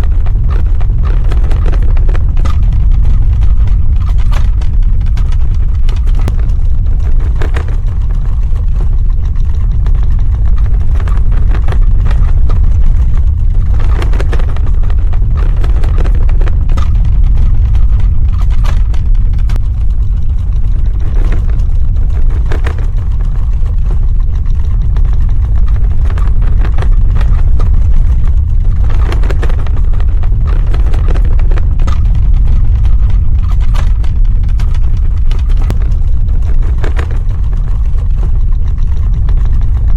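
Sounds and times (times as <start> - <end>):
crackling and grinding: 0.0 - 39.9
deep ground rumble: 0.0 - 39.9.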